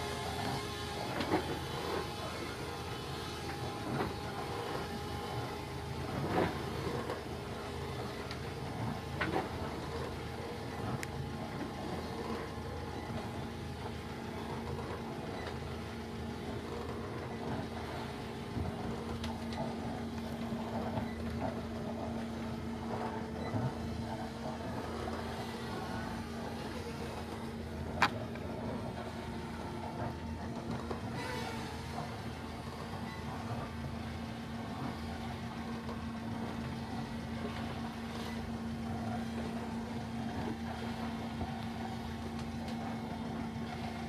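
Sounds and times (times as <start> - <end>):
motor humming: 0.0 - 44.0
wind and water noise: 0.0 - 44.0.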